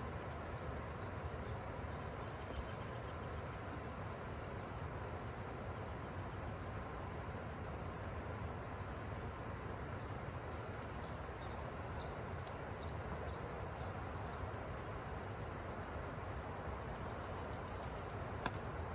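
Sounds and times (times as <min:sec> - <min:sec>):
river flowing: 0:00.0 - 0:18.9.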